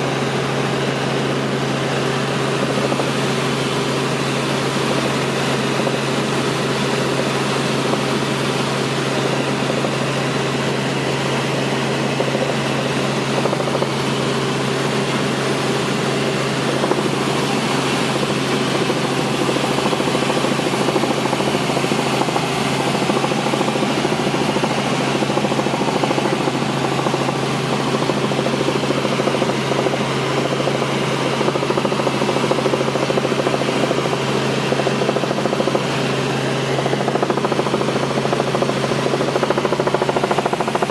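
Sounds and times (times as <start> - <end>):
helicopter cabin drone: 0.0 - 40.9.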